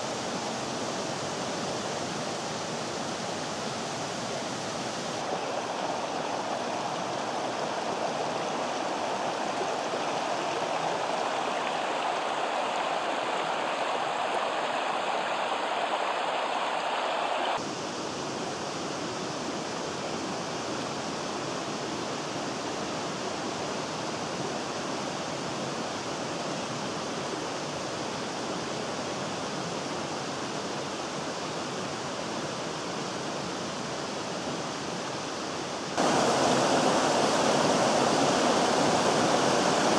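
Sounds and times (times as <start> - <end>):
stream rushing over stones: 0.0 - 17.7, 20.4 - 39.9.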